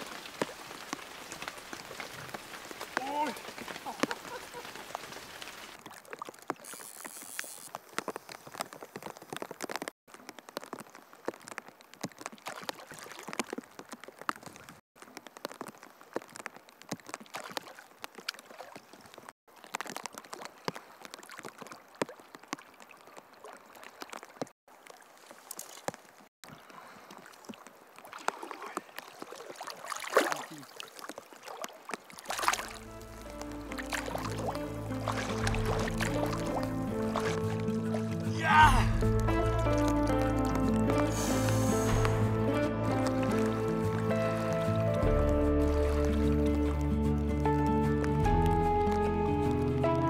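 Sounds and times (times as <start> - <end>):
fish splashing: 0.0 - 46.8
flowing water: 0.0 - 47.6
rain pattering on river: 0.0 - 50.0.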